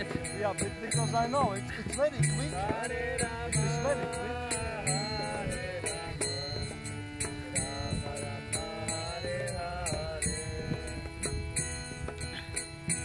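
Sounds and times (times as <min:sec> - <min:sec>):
voices chanting a melody: 0:00.0 - 0:12.4.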